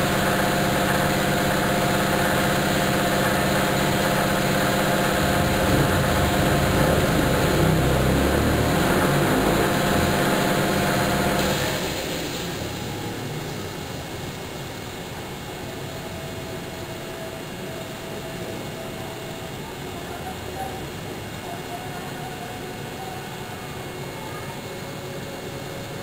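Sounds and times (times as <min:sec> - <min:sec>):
laser cutter humming: 0:00.0 - 0:26.0
low shifting machine tones: 0:00.0 - 0:26.0.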